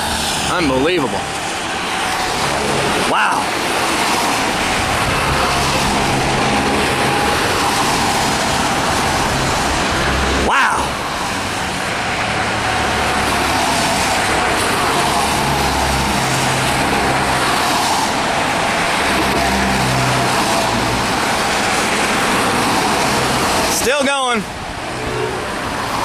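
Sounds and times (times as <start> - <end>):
road traffic engine hum: 0.0 - 26.0.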